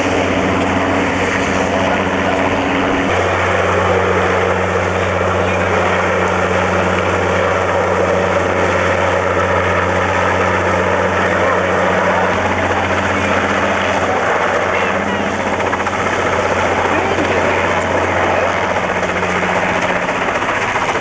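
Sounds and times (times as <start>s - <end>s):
helicopter hovering overhead: 0.0s - 21.0s.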